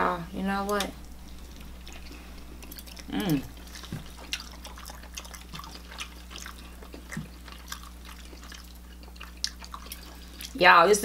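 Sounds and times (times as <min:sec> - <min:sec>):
people chewing: 0:00.6 - 0:10.6.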